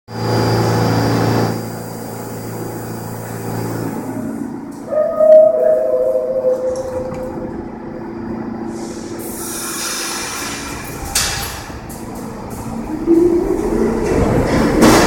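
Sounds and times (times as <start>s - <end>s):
steady train hum: 0.1s - 15.0s.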